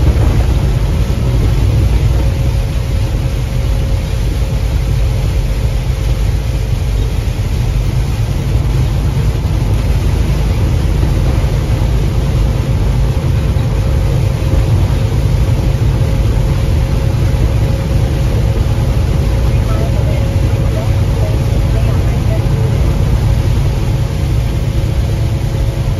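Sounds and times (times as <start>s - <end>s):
truck engine drone: 0.0s - 25.9s.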